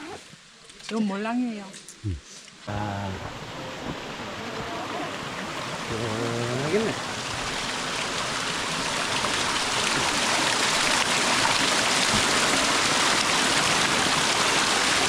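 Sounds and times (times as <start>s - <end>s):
stream water rushing: 2.6s - 15.0s.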